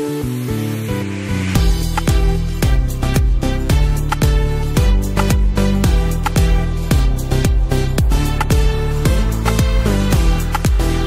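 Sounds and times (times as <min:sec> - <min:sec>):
deep drum beat: 0:01.6 - 0:10.8.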